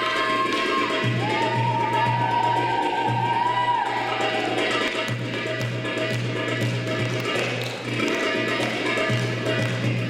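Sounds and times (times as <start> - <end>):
saz dance music: 0.0 - 10.0.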